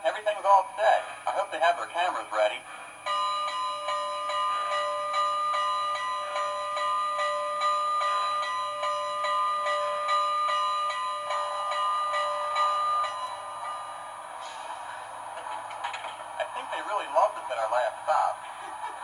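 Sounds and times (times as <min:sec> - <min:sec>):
locomotive bell clanging: 0:03.0 - 0:19.0.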